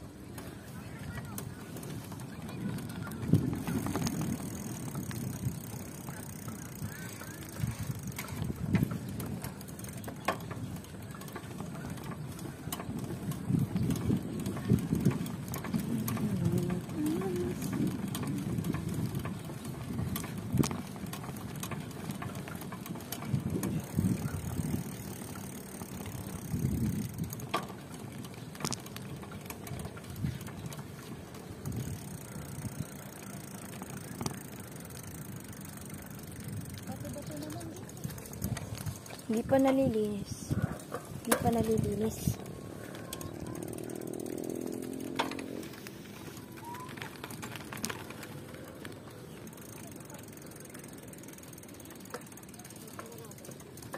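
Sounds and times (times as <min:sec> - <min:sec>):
bicycle clicks and rattles: 0:00.0 - 0:53.9
wind and road rumble: 0:00.0 - 0:53.9.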